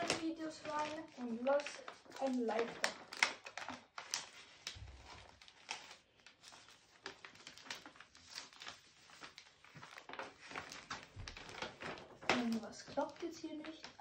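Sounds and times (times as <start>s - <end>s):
paper rustling and crinkling: 0.0s - 14.0s.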